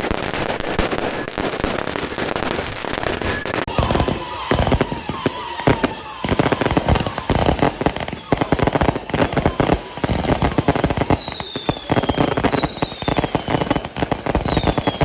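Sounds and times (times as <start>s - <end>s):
firecrackers crackling and banging: 0.0s - 15.0s.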